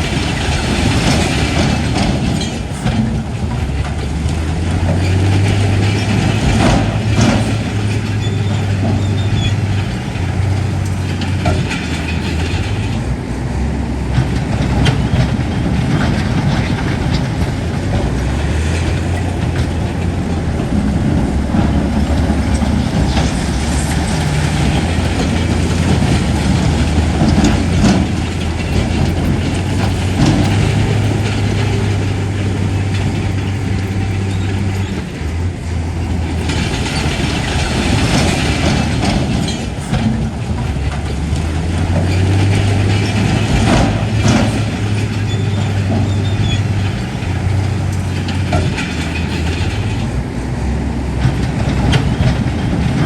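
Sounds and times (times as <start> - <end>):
bulldozer diesel engine running: 0.0 - 53.0
steel tracks clanking: 0.0 - 53.0.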